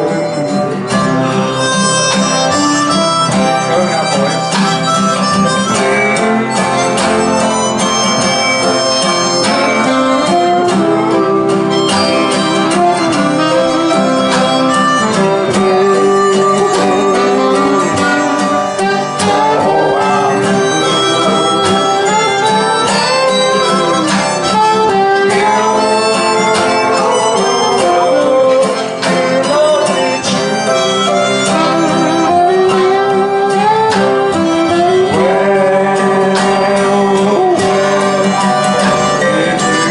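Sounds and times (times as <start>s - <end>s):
blues harmonica solo: 0.0s - 39.9s
strummed acoustic guitars: 0.0s - 39.9s
upright bass: 0.0s - 39.9s.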